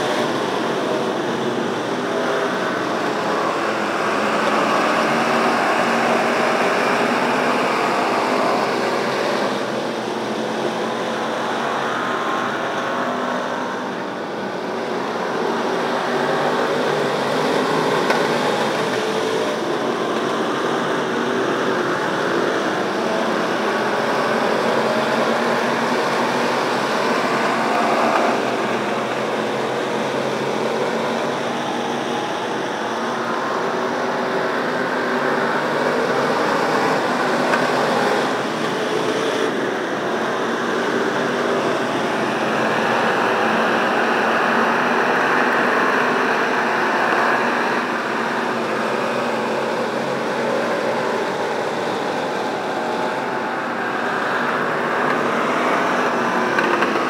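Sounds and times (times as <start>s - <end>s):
race car engines: 0.0s - 57.0s.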